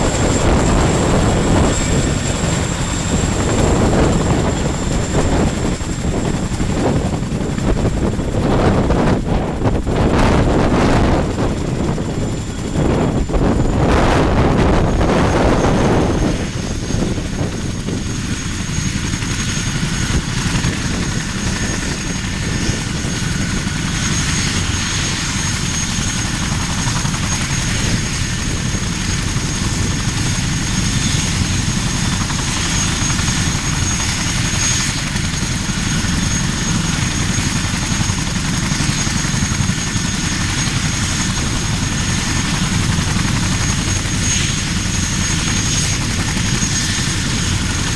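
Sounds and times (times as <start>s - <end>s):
helicopter low rumble: 0.0s - 47.9s
high-pitched whine: 0.0s - 47.9s.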